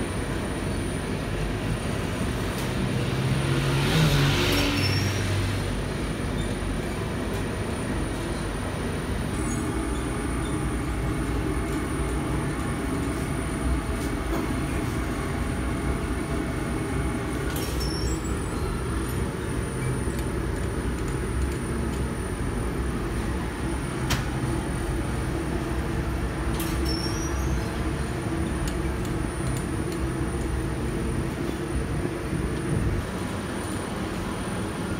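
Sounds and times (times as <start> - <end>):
conveyor machinery rumbling: 4.7 - 34.9.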